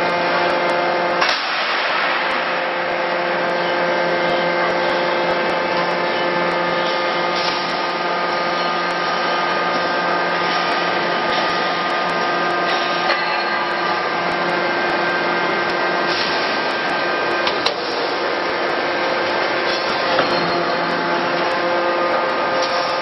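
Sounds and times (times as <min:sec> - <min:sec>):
machinery drone: 0:00.0 - 0:23.0.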